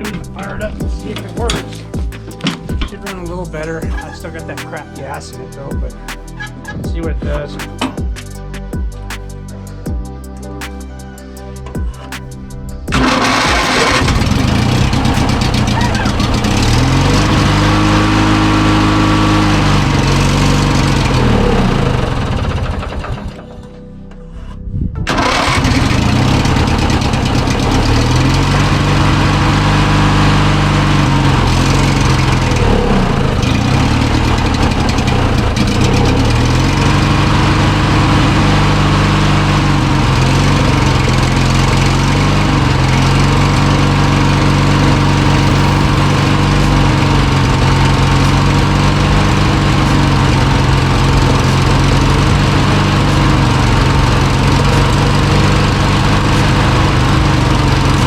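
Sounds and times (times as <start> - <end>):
riding mower engine running: 0.0 - 6.5, 12.9 - 23.6, 25.1 - 58.0.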